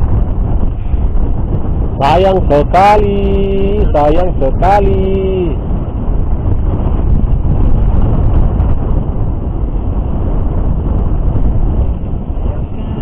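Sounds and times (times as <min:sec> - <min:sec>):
wind and rough sea rumbling: 0:00.0 - 0:13.0
wind buffeting microphone: 0:00.0 - 0:13.0.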